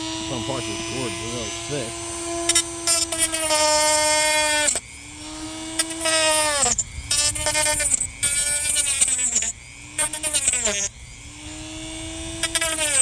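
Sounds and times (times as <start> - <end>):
power tool motor whine: 0.0 - 13.0
rasping cutting noise: 0.0 - 13.0.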